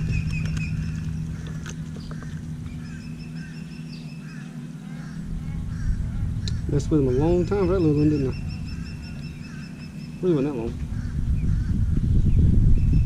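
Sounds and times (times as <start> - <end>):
bird honking calls: 0.0 - 12.0
electric motor hum: 0.0 - 13.0.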